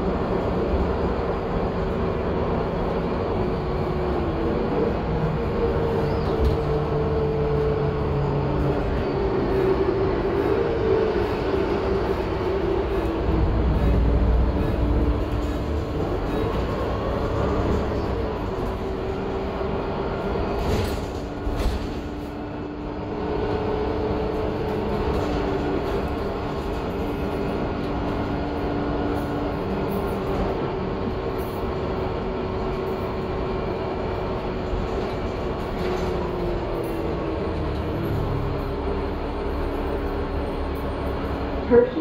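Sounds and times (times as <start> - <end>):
bus diesel engine droning: 0.0 - 42.0
road rumble: 0.0 - 42.0.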